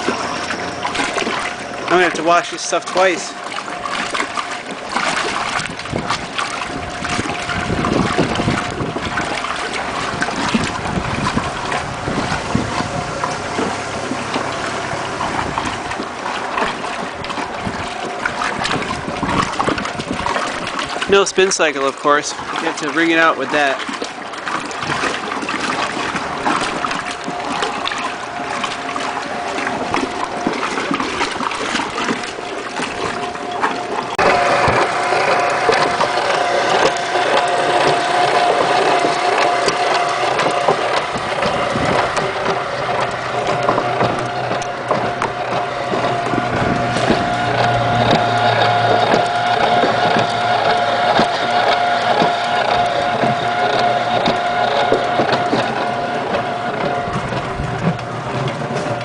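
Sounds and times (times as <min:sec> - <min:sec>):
steady hum: 0:00.0 - 0:59.0
washing machine motor running: 0:00.0 - 0:59.0
water churning: 0:00.0 - 0:59.0.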